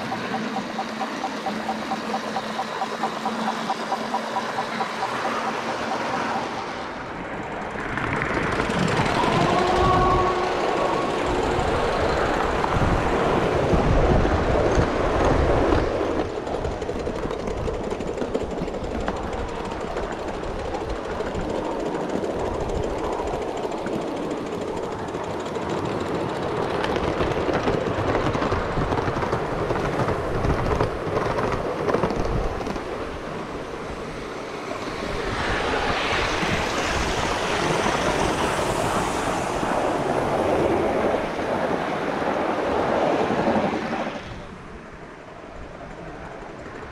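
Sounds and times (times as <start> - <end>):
model train rattling over rails: 0.0 - 44.6.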